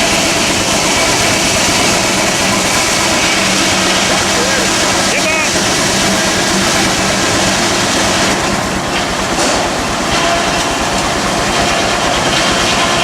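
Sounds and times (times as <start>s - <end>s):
steam engine machinery noise: 0.0s - 13.0s.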